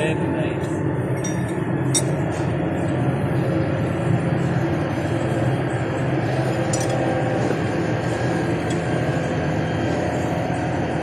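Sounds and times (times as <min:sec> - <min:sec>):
running machinery drone: 0:00.0 - 0:11.0.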